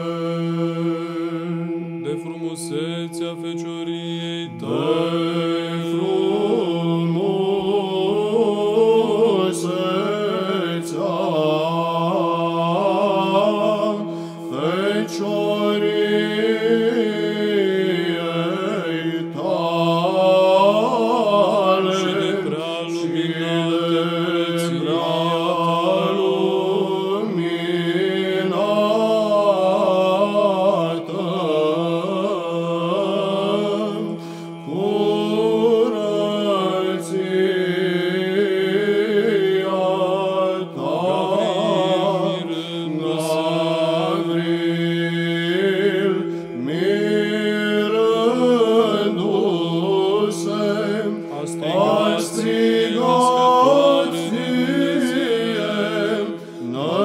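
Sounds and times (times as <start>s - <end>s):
man chanting ornamented melody: 0.0s - 57.0s.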